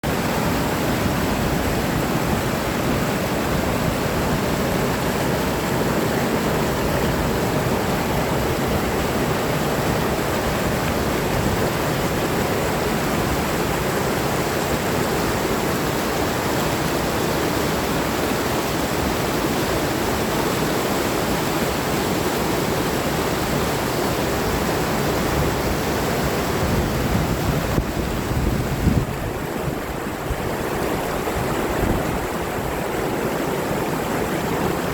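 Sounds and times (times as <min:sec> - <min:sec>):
water rushing: 0:00.0 - 0:34.9
wind: 0:00.0 - 0:34.9.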